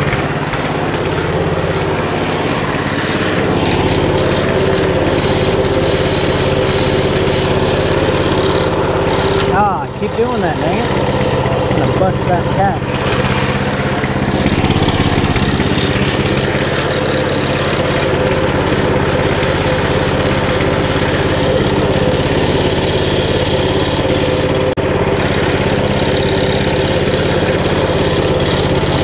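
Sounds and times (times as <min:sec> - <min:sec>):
small engine idling: 0:00.0 - 0:29.0.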